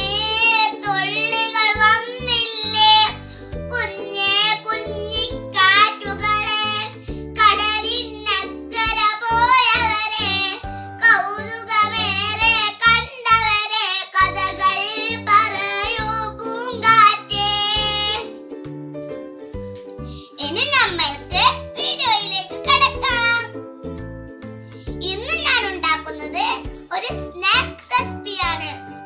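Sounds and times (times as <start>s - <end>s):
girl singing: 0.0s - 18.4s, 20.1s - 23.6s, 25.0s - 28.9s
instrumental backing track: 0.0s - 29.0s.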